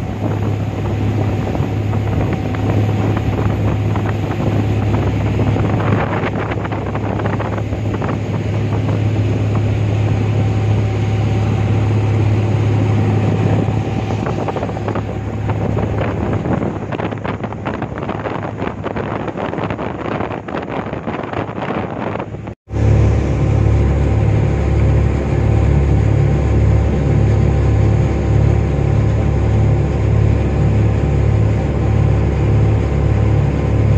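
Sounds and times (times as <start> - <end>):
boat engine drone: 0.0 - 33.9
water rushing: 0.0 - 33.9
wind buffeting microphone: 0.0 - 33.9.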